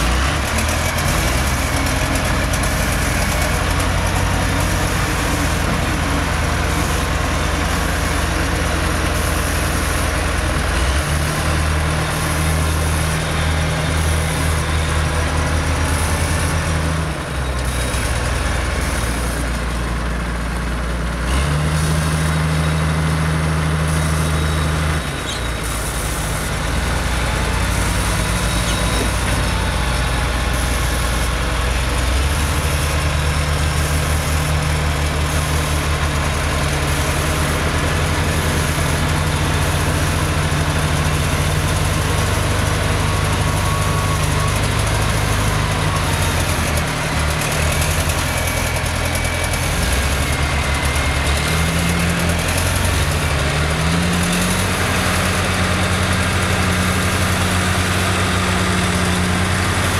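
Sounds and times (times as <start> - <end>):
wheel loader diesel engine: 0.0 - 59.9.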